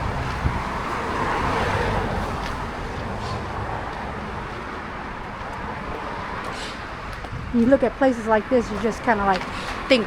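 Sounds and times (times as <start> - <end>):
road vehicle passing: 0.0 - 10.0.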